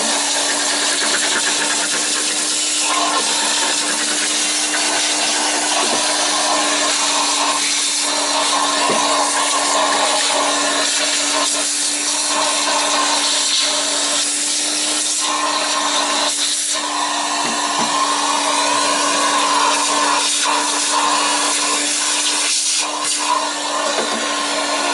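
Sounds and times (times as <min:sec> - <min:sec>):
vacuum cleaner running: 0:00.0 - 0:24.9.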